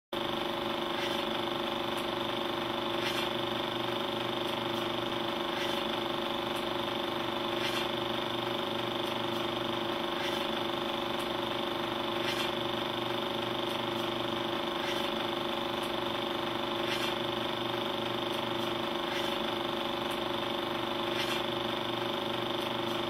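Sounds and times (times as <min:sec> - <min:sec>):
film projector whirring: 0:00.2 - 0:23.0.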